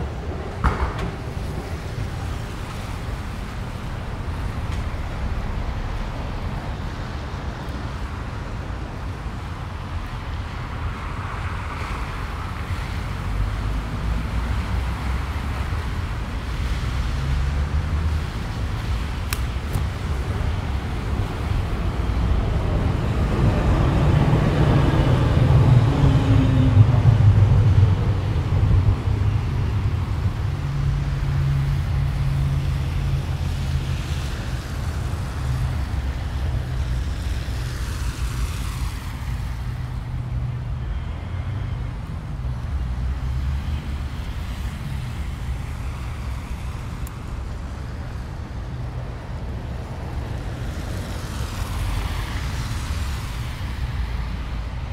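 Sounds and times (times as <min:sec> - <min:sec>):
cars passing on wet street: 0:00.0 - 0:54.9.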